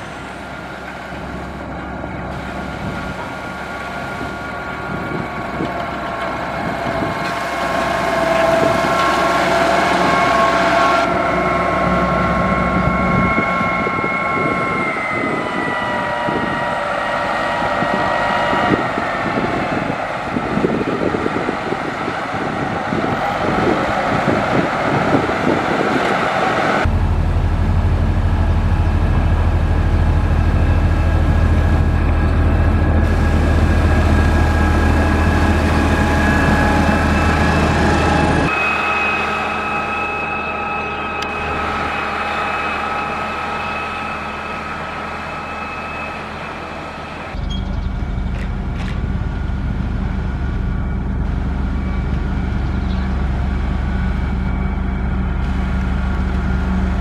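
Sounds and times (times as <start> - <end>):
diesel engine running: 0.0 - 57.0
heavy low drone: 0.0 - 57.0
whine over engine: 0.0 - 57.0.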